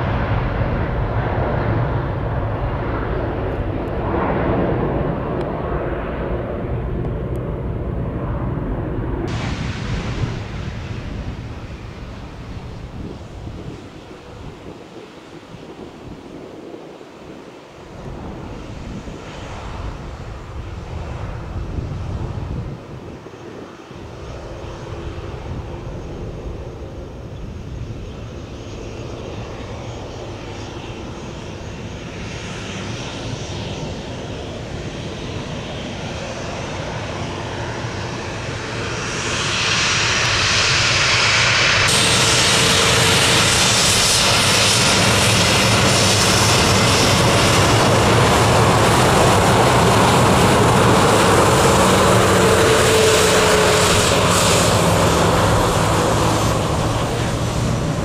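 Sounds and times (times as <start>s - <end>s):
jet airliner engines: 0.0s - 58.0s.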